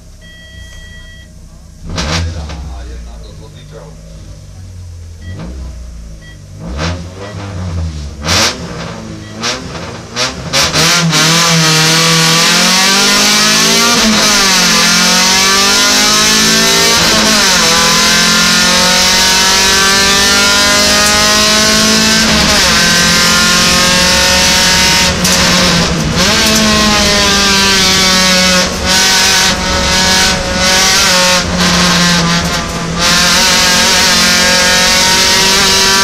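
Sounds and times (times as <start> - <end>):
race car engine accelerating: 1.8 - 36.0.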